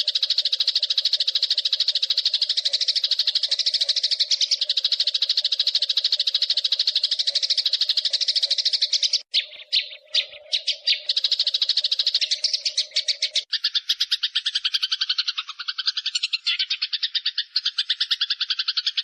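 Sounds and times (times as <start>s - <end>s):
sparrows chattering: 0.0s - 19.0s.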